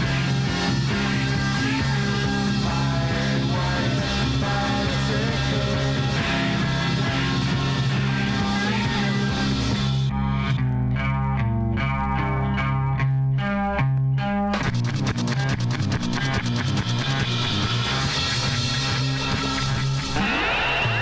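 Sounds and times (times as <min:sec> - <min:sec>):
psychedelic rock record playing: 0:00.0 - 0:21.0.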